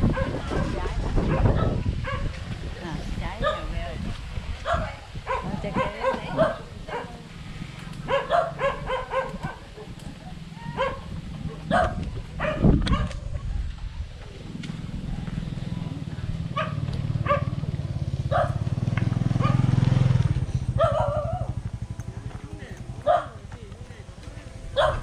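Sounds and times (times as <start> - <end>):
low motor-like rumble: 0.0 - 25.0.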